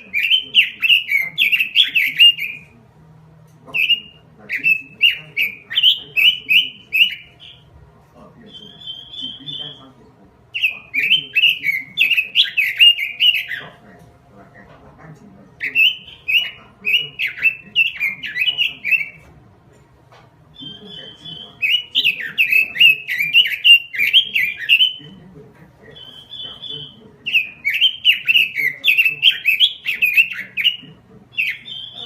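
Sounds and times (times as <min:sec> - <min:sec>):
bird singing warbling notes: 0:00.0 - 0:02.8, 0:03.7 - 0:19.4, 0:20.5 - 0:32.0.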